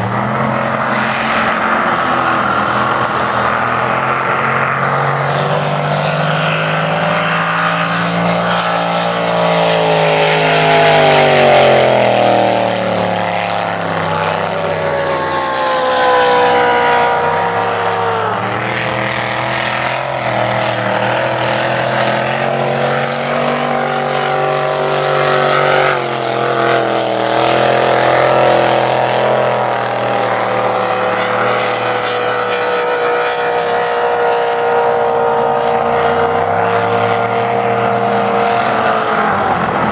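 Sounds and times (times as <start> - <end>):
powerboat engine at high revs: 0.0 - 39.9.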